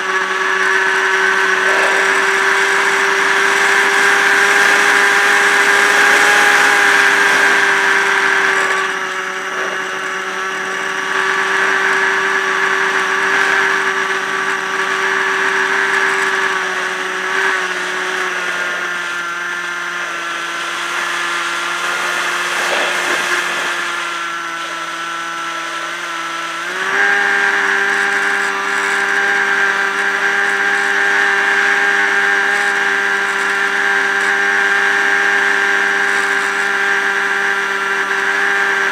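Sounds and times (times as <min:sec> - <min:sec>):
electric motor propeller whine: 0:00.0 - 0:38.9.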